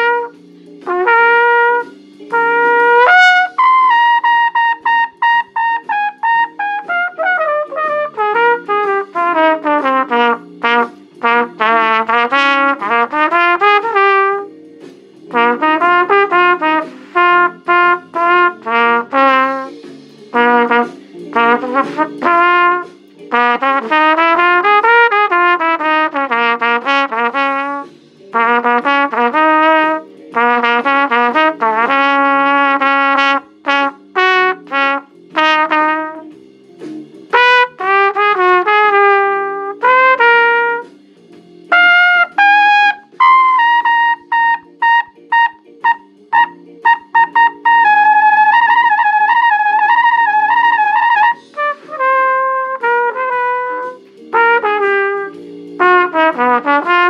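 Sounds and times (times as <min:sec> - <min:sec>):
trumpet improvising blues: 0:00.0 - 0:14.6, 0:15.2 - 0:36.4, 0:37.3 - 0:41.0, 0:41.7 - 0:57.0
blues backing track: 0:00.0 - 0:57.0.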